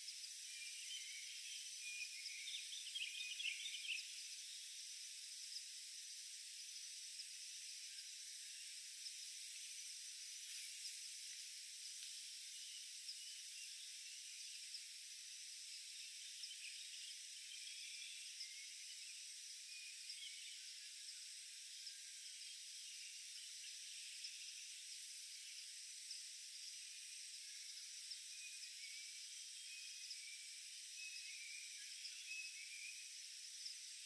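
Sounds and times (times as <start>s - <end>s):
high-pitched insect drone: 0.1s - 34.0s.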